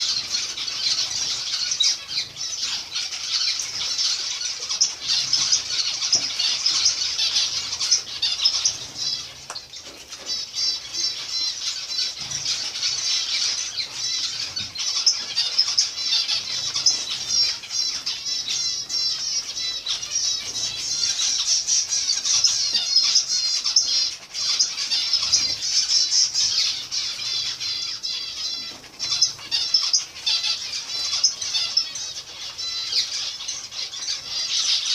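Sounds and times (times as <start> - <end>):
finches calling: 0.0 - 34.9.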